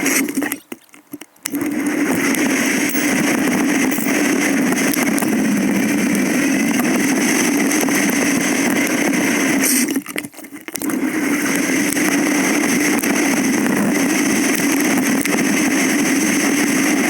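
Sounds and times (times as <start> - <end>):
bike riding drone with hiss: 1.6 - 10.0, 11.0 - 17.0.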